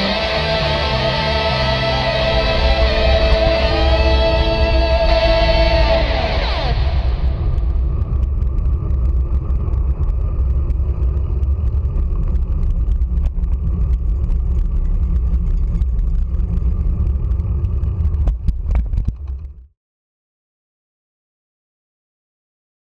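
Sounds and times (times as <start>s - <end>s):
road vibration rumble: 0.0s - 19.7s
wind noise: 0.0s - 19.7s.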